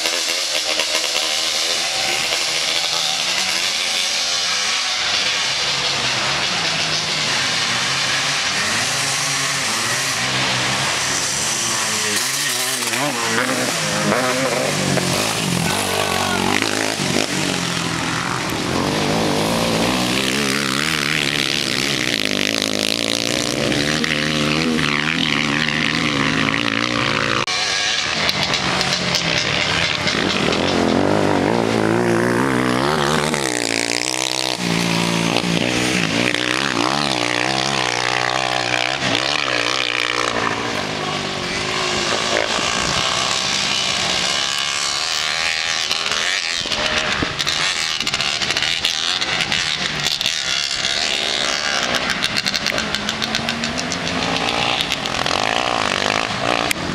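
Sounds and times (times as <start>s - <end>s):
quad bike engines revving: 0.0s - 56.9s.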